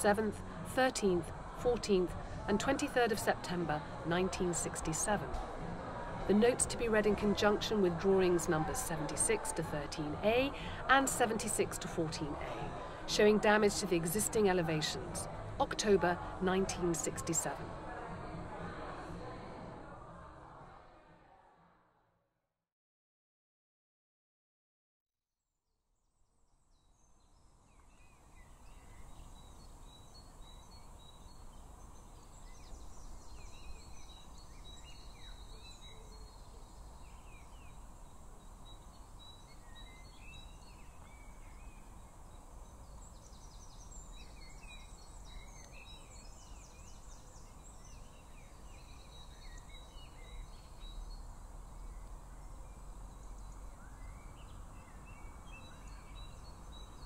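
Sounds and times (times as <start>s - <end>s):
songbirds chirping: 0.0s - 19.1s, 26.6s - 57.0s.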